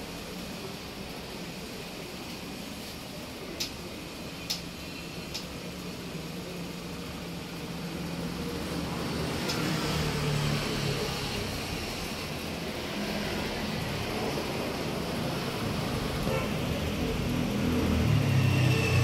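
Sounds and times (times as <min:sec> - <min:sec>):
steady hum and hiss: 0:00.0 - 0:19.0.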